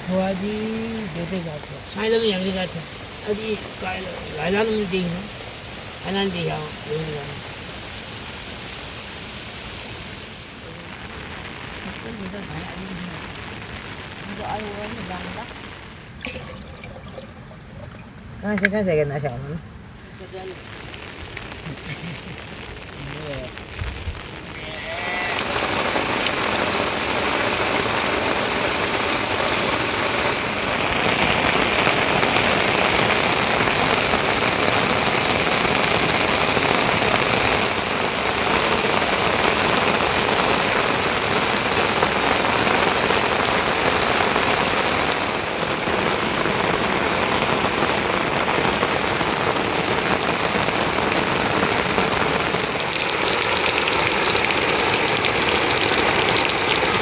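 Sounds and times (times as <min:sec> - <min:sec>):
rain falling steadily: 0:00.0 - 0:57.0.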